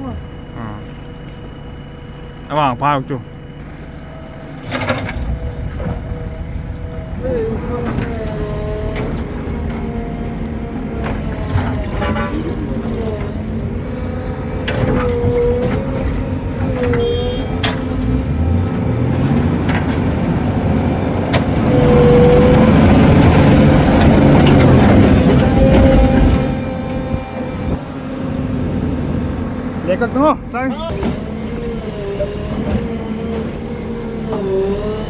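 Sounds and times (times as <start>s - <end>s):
diesel engine revving: 0.0s - 35.0s.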